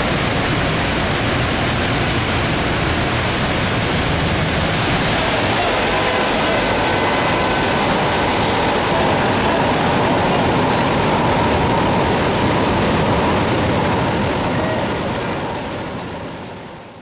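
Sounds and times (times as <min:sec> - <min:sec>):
heavy rain: 0:00.0 - 0:17.0
traffic: 0:00.0 - 0:17.0.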